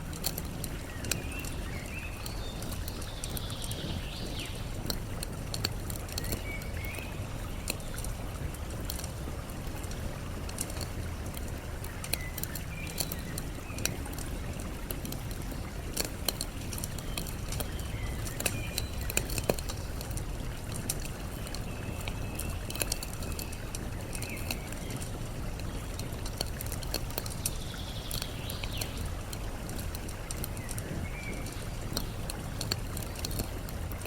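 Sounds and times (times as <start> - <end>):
campfire crackling and popping: 0.0 - 34.0
flowing water: 0.0 - 34.0.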